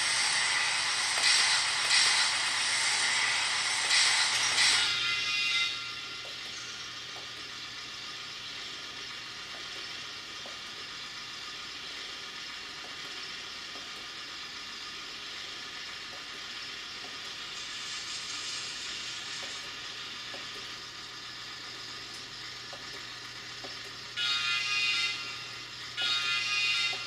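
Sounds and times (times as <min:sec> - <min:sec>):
small motor hissing: 0:00.0 - 0:27.0.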